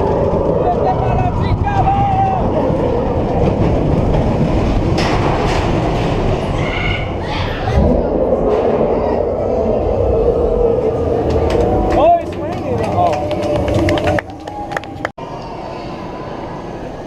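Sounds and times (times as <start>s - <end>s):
ride vehicle rumbling on rails: 0.0s - 15.2s.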